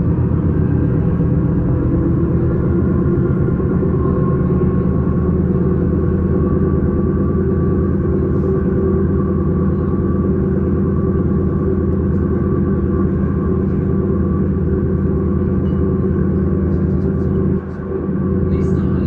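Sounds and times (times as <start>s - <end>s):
electric train rumble and hum: 0.0s - 19.0s.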